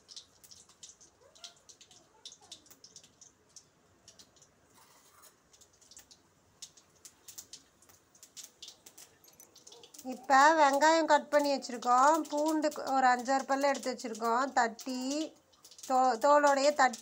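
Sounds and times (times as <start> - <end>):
seeds crackling in hot oil: 0.0 - 17.0.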